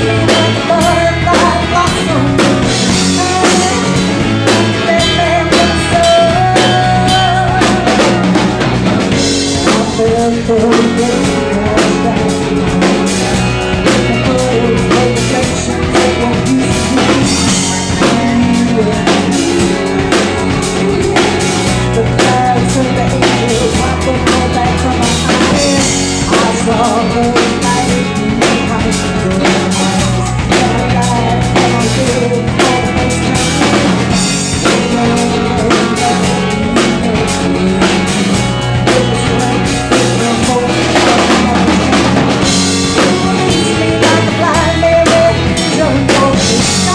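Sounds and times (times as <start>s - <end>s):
live rock band playing: 0.0s - 46.9s
woman singing: 0.0s - 46.9s.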